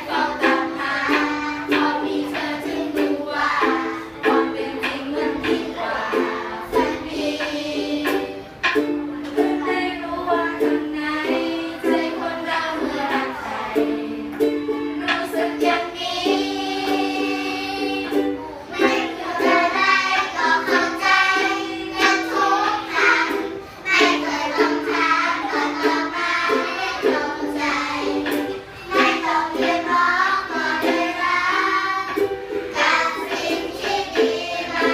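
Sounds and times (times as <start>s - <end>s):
group singing: 0.0s - 8.8s, 9.4s - 34.9s
strummed ukulele chords: 0.0s - 34.9s.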